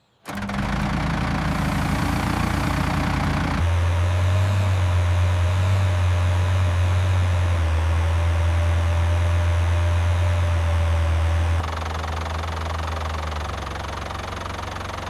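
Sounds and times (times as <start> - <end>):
cartoon vehicle engine: 0.3 - 15.0.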